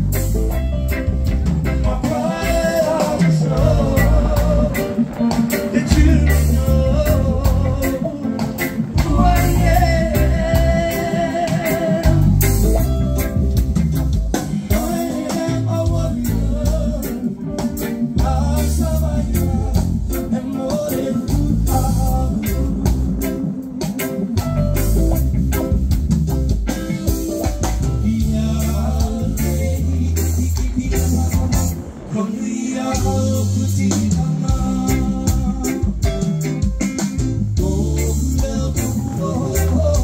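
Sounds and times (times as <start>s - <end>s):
bass guitar: 0.0s - 40.0s
drum kit: 0.0s - 40.0s
electric guitar: 0.0s - 40.0s
keyboard: 0.0s - 40.0s
person singing: 1.7s - 13.3s, 14.3s - 25.0s, 26.7s - 36.6s, 37.5s - 40.0s.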